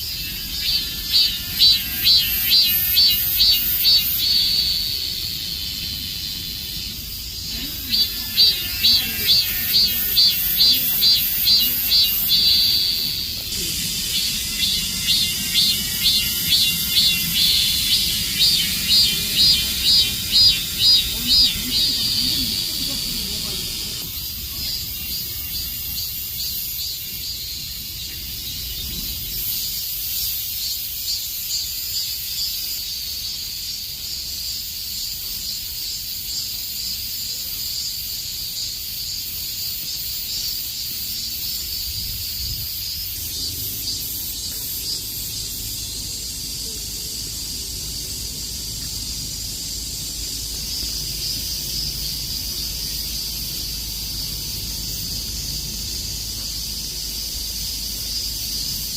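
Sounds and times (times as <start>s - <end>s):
cicadas buzzing: 0.0s - 58.9s.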